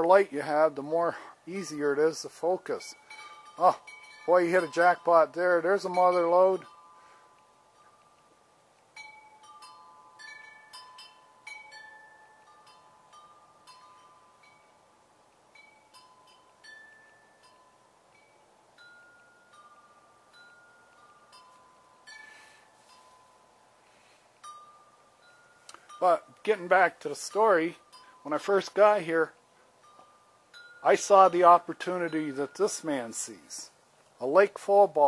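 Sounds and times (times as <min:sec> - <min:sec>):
faint wind chimes ringing: 0:00.0 - 0:35.0.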